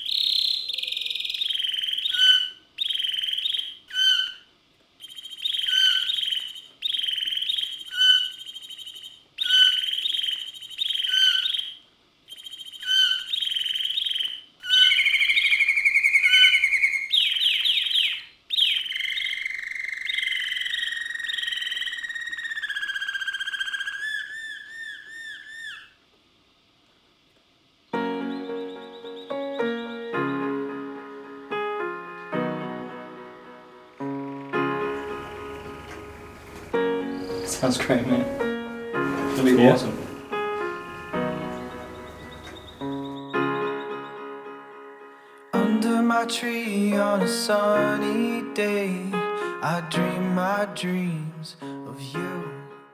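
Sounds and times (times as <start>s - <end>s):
songbirds singing: 0.0s - 26.0s, 27.8s - 44.6s, 45.2s - 52.8s.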